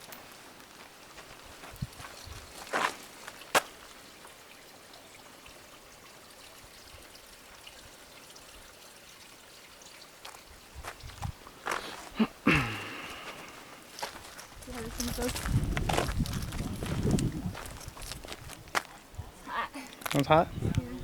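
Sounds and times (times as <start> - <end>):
water trickling and pouring: 0.0 - 12.2, 12.9 - 21.0.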